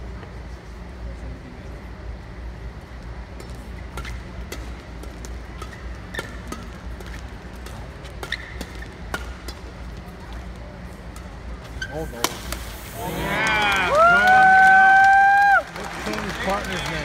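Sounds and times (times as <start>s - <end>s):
low hum in large hall: 0.0s - 17.0s.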